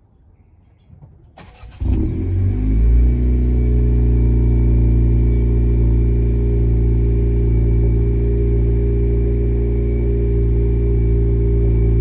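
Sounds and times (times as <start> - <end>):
car engine idling: 1.4 - 12.0.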